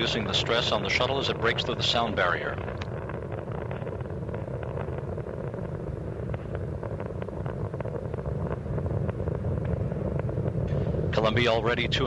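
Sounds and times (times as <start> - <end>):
rocket engine crackling: 0.0 - 12.0
rocket launch roar: 0.0 - 12.0.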